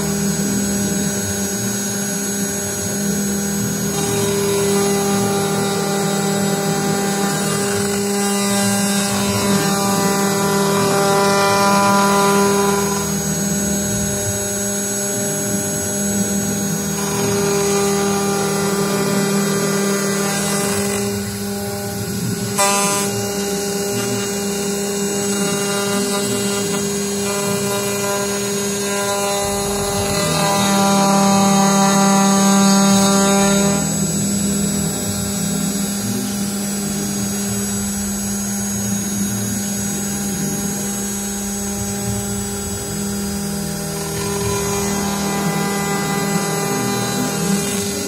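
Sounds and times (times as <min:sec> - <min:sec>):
milling machine whine: 0:00.0 - 0:48.0.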